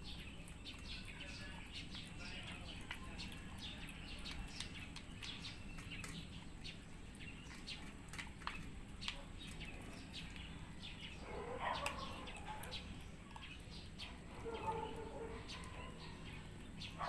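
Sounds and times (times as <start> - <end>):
cats crunching food: 0.0 - 17.0.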